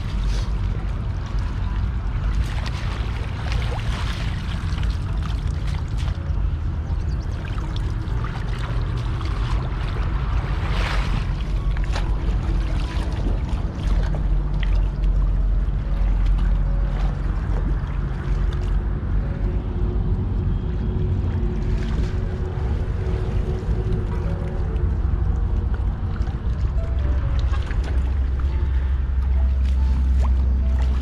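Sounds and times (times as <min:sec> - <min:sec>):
splashing in muddy water: 0:00.0 - 0:19.2, 0:20.0 - 0:31.0
low rumble: 0:00.0 - 0:31.0.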